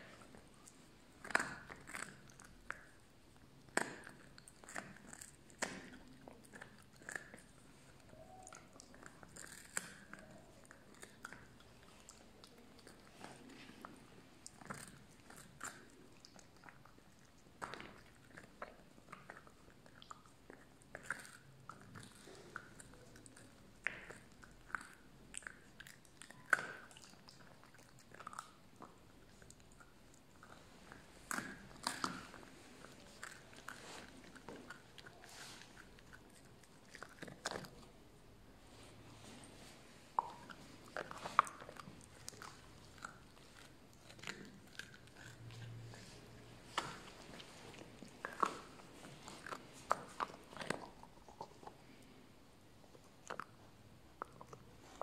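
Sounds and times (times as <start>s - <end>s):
puppy chewing a bone: 0.0s - 55.0s.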